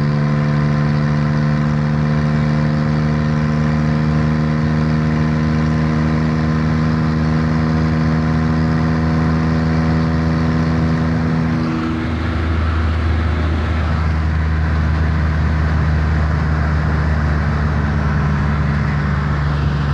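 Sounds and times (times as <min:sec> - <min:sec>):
diesel engine drone: 0:00.0 - 0:19.9
wind and road noise: 0:00.0 - 0:19.9.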